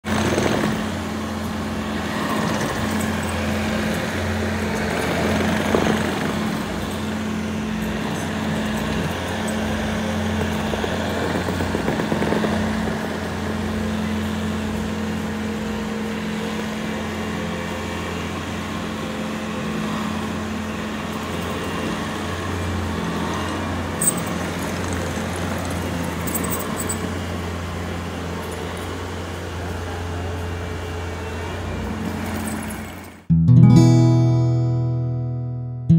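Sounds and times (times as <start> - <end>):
loader diesel engine running: 0.0 - 35.2.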